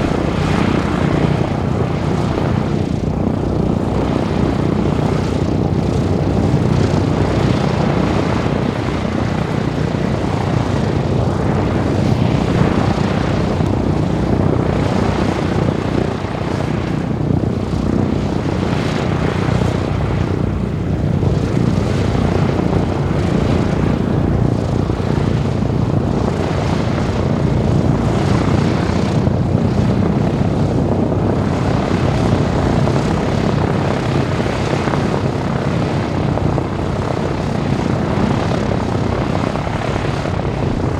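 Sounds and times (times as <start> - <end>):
radial aircraft engines running: 0.0 - 40.9.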